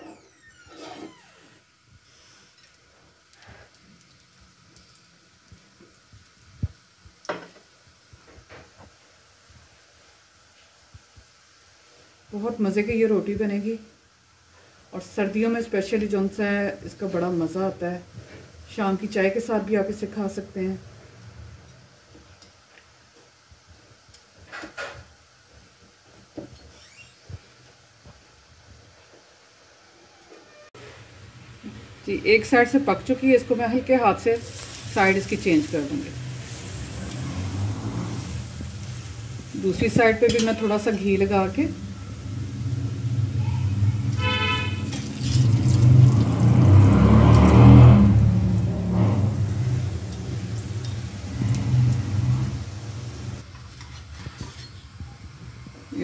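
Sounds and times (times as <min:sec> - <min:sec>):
ghee sizzling faintly: 0:00.0 - 0:56.0.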